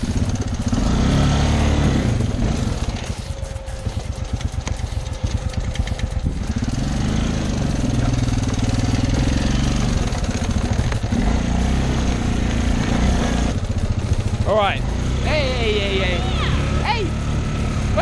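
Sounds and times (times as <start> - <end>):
small off-road vehicle engine: 0.0 - 18.0.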